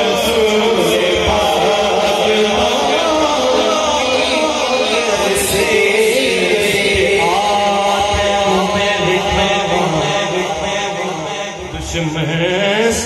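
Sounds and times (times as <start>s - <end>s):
man singing through loudspeaker: 0.0s - 13.0s.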